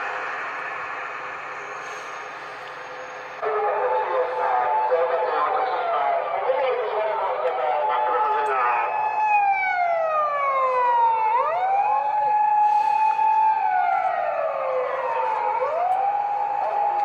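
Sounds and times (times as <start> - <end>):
police siren wailing: 2.2 - 17.0.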